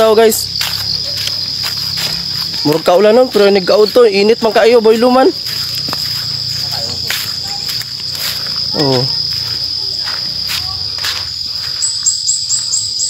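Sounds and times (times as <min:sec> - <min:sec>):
footsteps through grass: 0:00.0 - 0:12.8
insects droning: 0:00.0 - 0:13.0.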